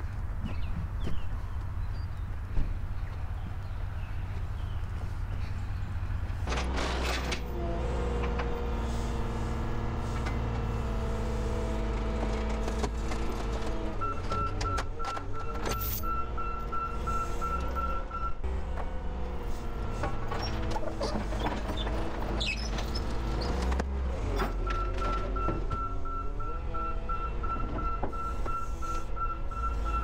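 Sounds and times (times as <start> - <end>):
loader engine running: 0.0 - 30.0.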